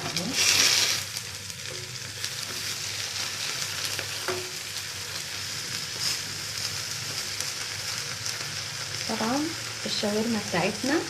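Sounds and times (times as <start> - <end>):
oil sizzling in grill pan: 0.0 - 11.0.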